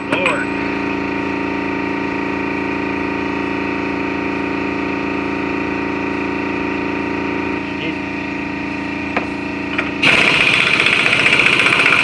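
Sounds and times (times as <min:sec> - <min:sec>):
machine motor running steadily: 0:00.6 - 0:12.0.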